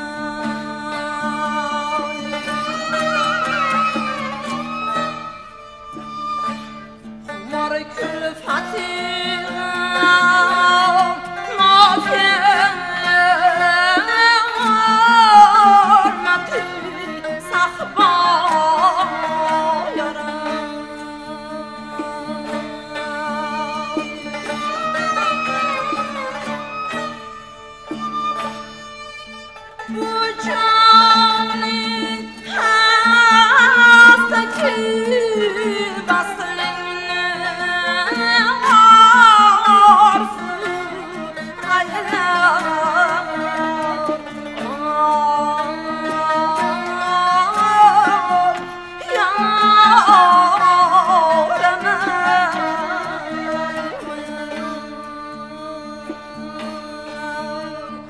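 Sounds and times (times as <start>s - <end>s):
woman singing ornamented phrases: 0.0s - 5.4s, 7.3s - 26.9s, 29.9s - 58.0s
string instrument accompaniment: 0.0s - 58.0s.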